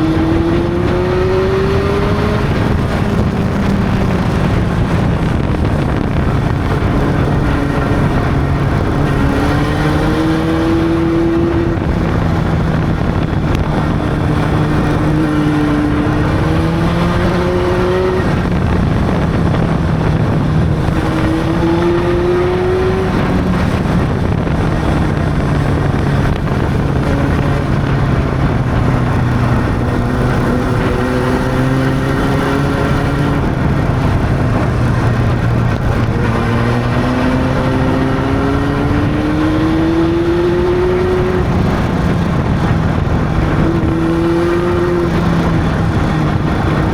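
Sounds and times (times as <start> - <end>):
motorcycle engine running: 0.0 - 46.9
road and wind noise: 0.0 - 46.9.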